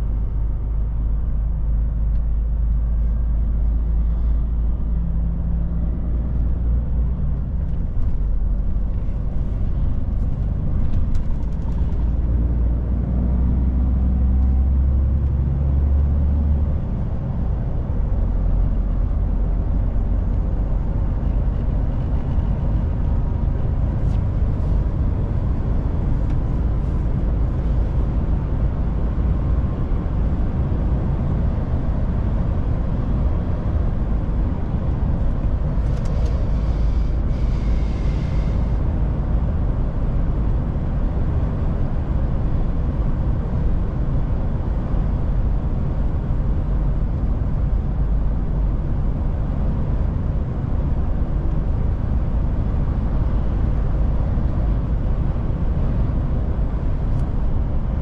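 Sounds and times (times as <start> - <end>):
diesel truck engine rumble: 0.0 - 58.0.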